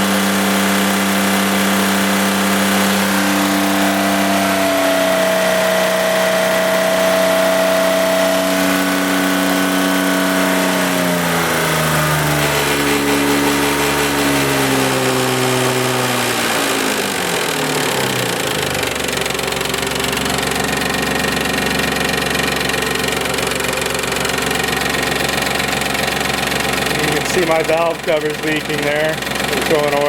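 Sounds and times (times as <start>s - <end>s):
car engine revving down to idle: 0.0s - 30.0s.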